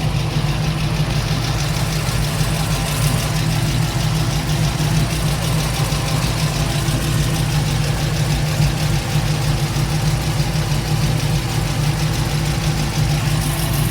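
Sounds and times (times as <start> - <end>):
engine idling with fast ticking: 0.0 - 13.9.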